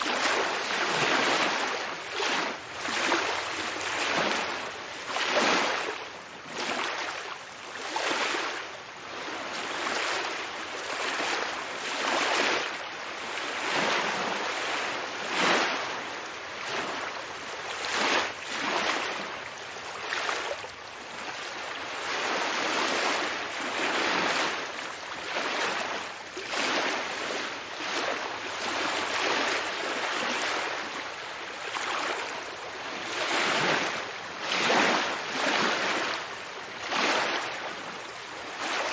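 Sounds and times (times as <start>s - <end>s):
ocean waves washing: 0.0s - 38.9s.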